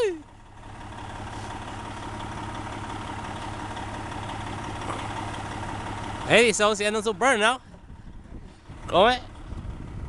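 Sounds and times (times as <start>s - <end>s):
diesel truck engine humming: 0.0s - 10.0s.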